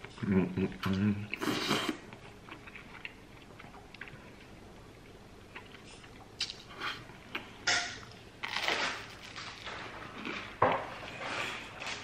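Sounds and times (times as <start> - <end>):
person chewing food: 0.8 - 12.0.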